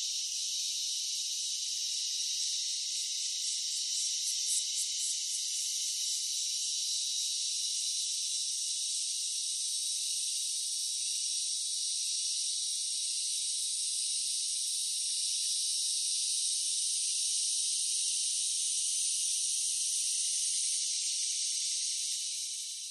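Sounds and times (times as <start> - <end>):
insects chirping: 0.0 - 22.9.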